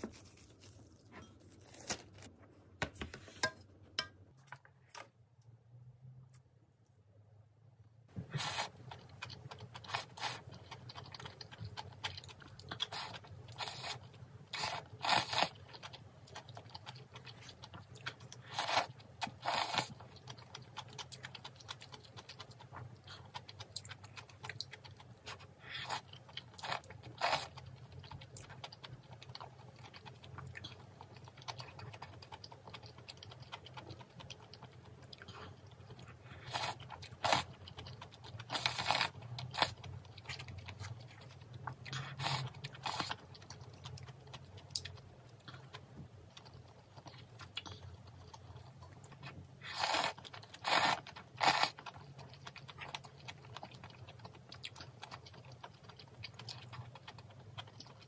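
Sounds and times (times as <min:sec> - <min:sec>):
person chewing crunchy food: 0:08.3 - 0:58.0.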